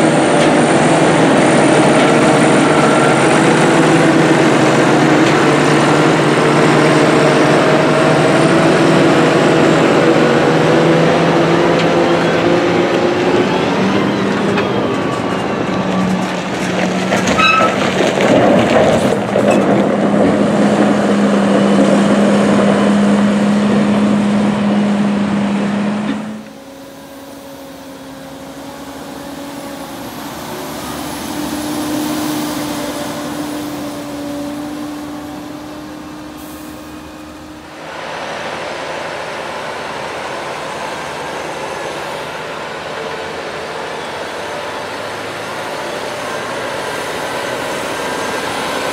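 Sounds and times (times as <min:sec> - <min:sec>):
quieter tractor engine: 0:00.0 - 0:48.9
tractor engine running loudly: 0:00.0 - 0:48.9.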